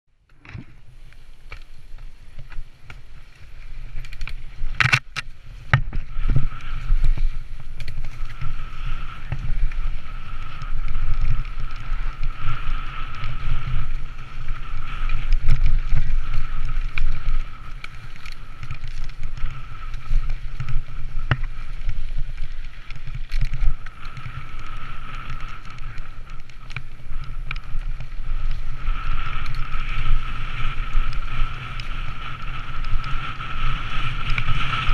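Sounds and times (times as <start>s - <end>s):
bike tyres rumbling on dirt: 0.2s - 34.9s
wind on microphone: 0.4s - 34.9s.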